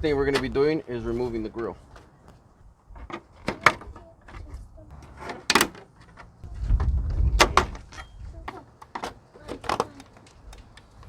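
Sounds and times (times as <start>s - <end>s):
low rumble of handling: 0.0s - 11.0s.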